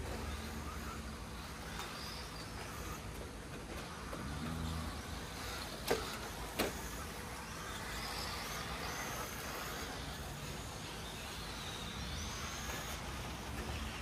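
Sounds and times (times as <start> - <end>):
faint high motor whine: 0.0 - 14.0
outdoor background: 0.0 - 14.0.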